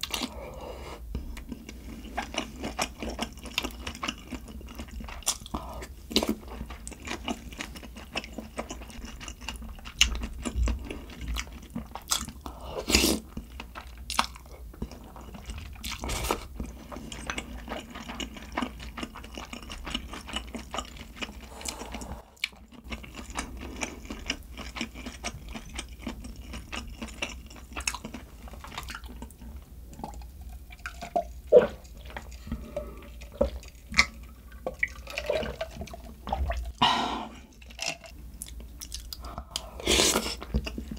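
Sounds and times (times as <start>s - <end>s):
person chewing with wet smacking: 1.1s - 36.8s, 37.5s - 40.9s.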